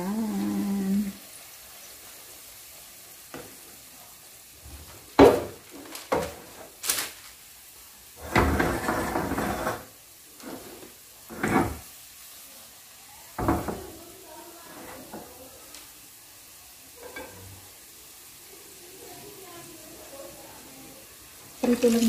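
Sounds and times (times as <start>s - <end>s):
oil sizzling in a pan: 0.0s - 22.0s.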